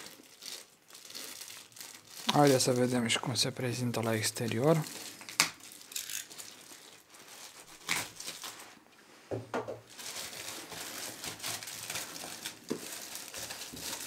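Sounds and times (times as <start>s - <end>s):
shrink wrap tearing: 0.0s - 3.4s, 4.1s - 8.8s, 9.9s - 14.0s
plastic crinkling: 0.0s - 8.8s, 9.8s - 14.0s.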